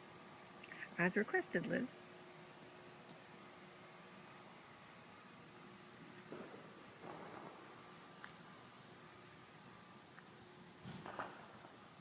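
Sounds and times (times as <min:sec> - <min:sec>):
faint steady hiss: 0:00.0 - 0:12.0
low steady hum: 0:00.0 - 0:12.0.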